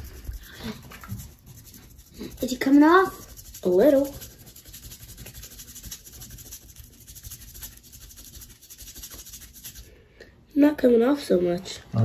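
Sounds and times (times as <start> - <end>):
toothbrush scrubbing eggshell: 0.0 - 10.0.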